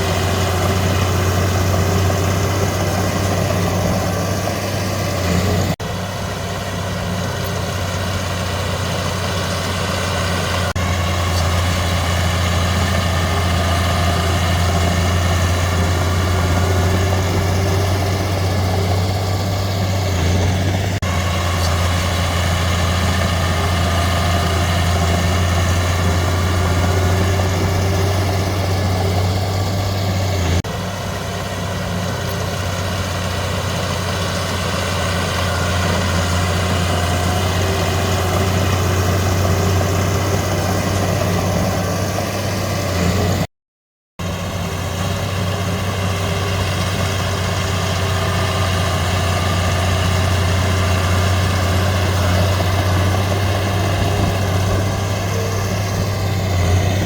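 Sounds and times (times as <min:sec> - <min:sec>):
heavy diesel engine running: 0:00.0 - 0:43.5, 0:44.2 - 0:57.0.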